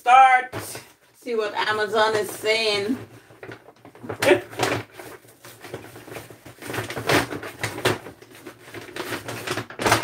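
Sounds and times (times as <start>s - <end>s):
paper bag crinkling: 1.8s - 10.0s.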